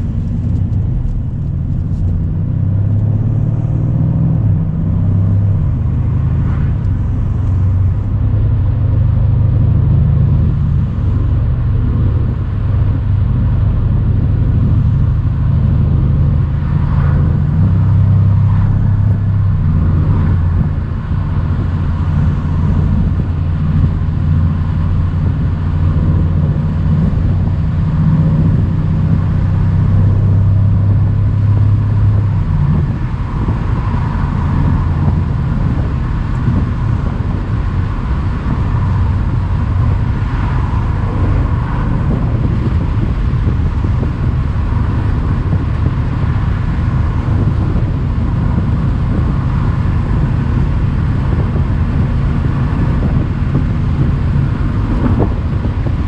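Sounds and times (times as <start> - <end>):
car engine droning: 0.0 - 56.0
road and wind noise: 0.0 - 56.0.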